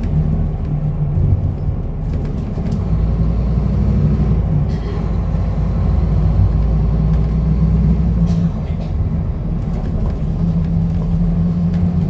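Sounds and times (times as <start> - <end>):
bus diesel engine droning: 0.0 - 12.0
road rumble: 0.0 - 12.0.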